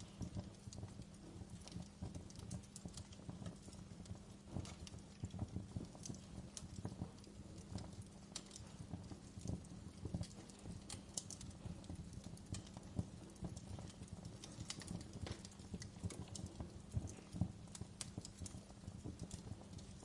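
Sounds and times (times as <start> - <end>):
low rumble of flame: 0.0 - 20.0
wood fire crackling and popping: 0.0 - 20.0.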